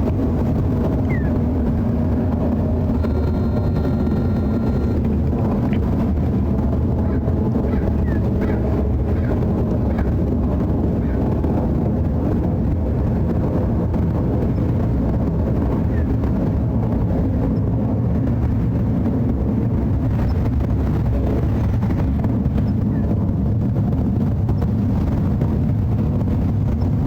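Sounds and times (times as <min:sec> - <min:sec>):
jet airliner engine rumble: 0:00.0 - 0:27.0.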